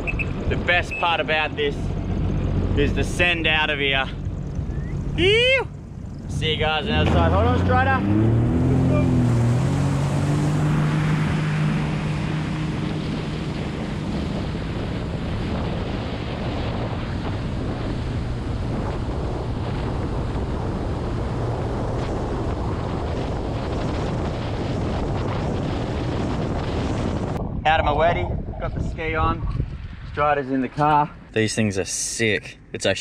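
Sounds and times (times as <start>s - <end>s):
jet ski engine: 0.0s - 27.4s
wind buffeting microphone: 0.0s - 31.4s.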